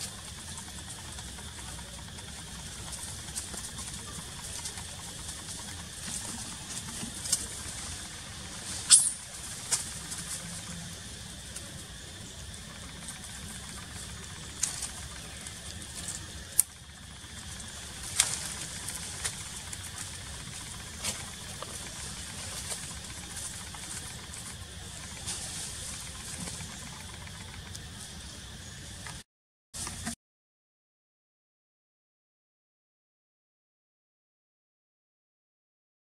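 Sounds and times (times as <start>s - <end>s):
outdoor background noise: 0.0s - 29.2s.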